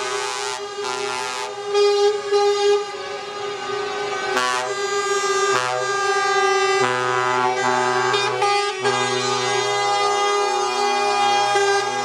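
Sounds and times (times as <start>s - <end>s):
lorry air horns blasting: 0.0s - 12.0s.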